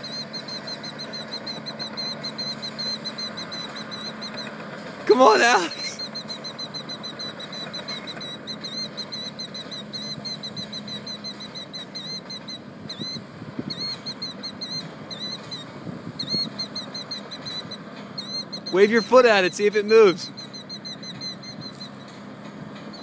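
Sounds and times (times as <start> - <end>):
bird chirping rapidly: 0.0 - 22.2
low engine hum: 0.0 - 23.0.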